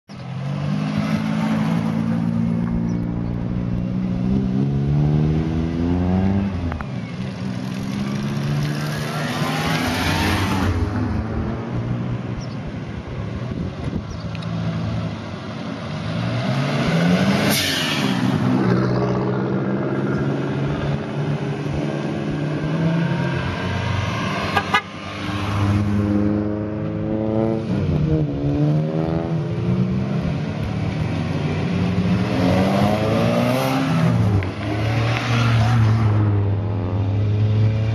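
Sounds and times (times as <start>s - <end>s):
car engines revving and accelerating: 0.1s - 37.9s.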